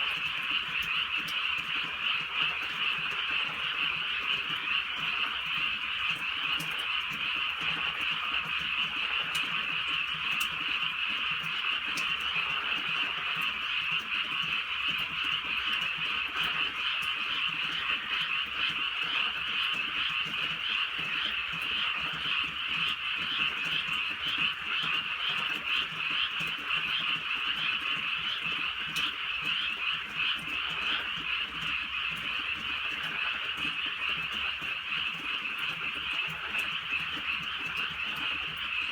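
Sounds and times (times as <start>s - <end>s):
frogs croaking: 0.0s - 38.9s.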